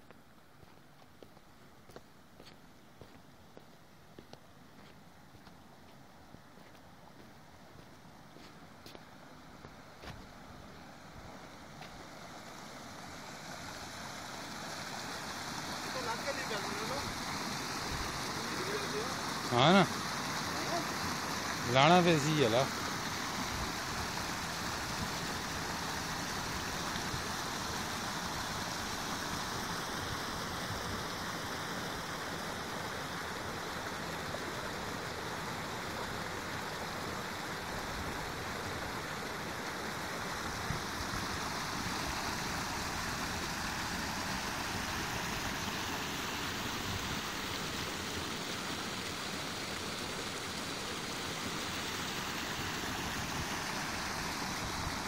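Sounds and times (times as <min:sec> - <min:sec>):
stream pouring over rocks: 0:04.4 - 0:55.0.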